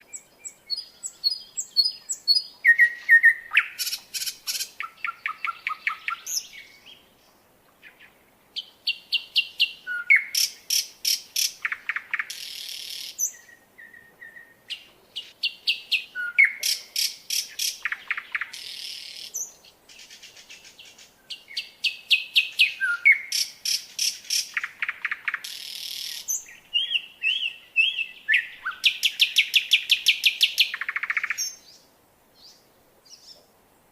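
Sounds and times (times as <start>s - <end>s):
songbird singing: 0.0s - 33.9s.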